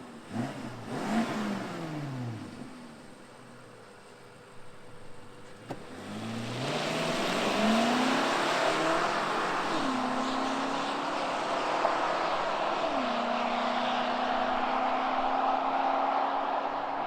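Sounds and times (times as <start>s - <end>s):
car engine accelerating: 0.0s - 4.0s, 4.6s - 17.0s.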